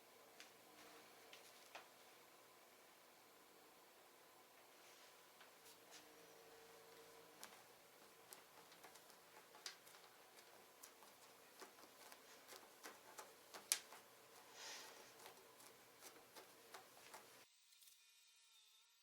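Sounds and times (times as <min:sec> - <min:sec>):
soft hiss: 0:00.0 - 0:19.0.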